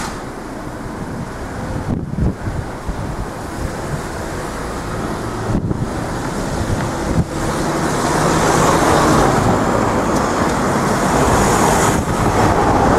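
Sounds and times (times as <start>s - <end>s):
cars driving off: 0.0s - 12.9s
wind on microphone: 0.6s - 12.9s.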